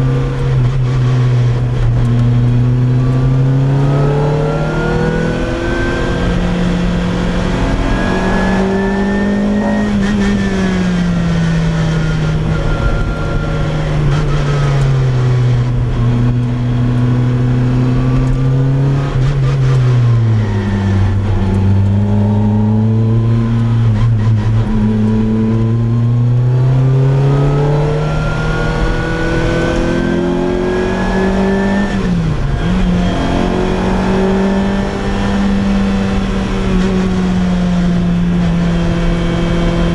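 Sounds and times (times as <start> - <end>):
car engine exhaust accelerating: 0.0 - 39.9.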